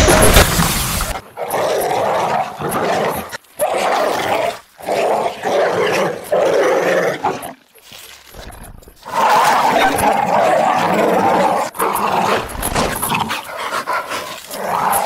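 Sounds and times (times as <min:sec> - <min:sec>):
animal growling and snarling: 0:00.0 - 0:15.0.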